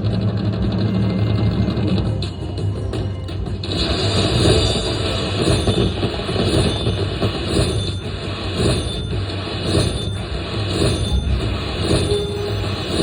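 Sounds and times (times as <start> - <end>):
slot machine sound effects: 0.4 - 13.0.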